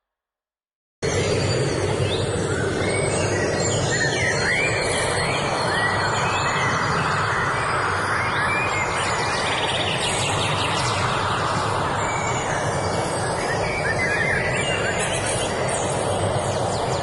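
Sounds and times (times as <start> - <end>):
birds chirping and whistling: 1.1 - 17.0.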